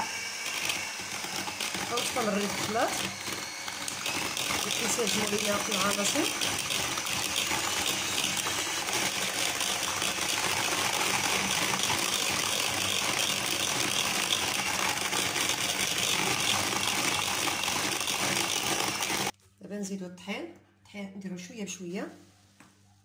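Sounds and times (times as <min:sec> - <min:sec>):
electric hand mixer whisking: 0:00.0 - 0:19.4.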